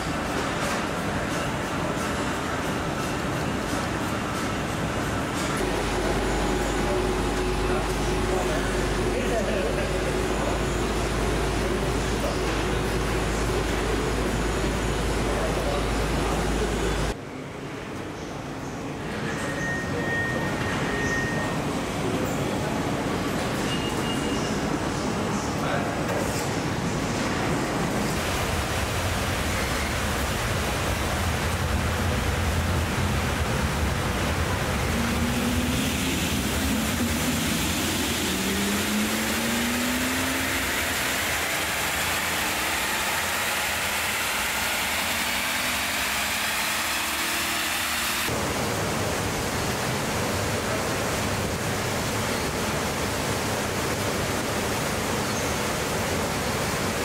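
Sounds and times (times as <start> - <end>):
factory hall hiss: 0.0 - 57.0.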